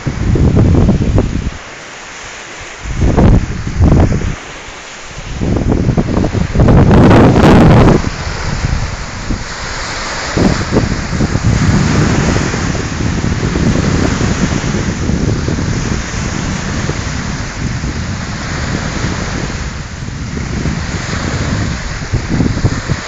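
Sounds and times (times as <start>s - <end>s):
wind buffeting microphone: 0.0s - 1.7s, 2.3s - 23.0s
lake waves washing ashore: 0.0s - 23.0s.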